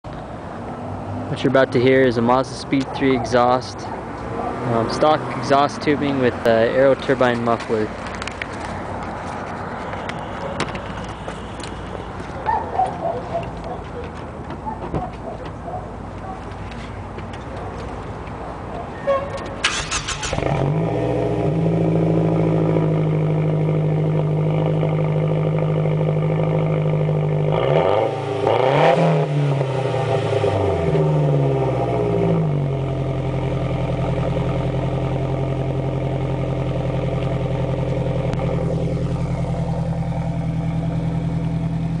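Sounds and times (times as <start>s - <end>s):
car engine idling and revving: 0.1s - 42.0s.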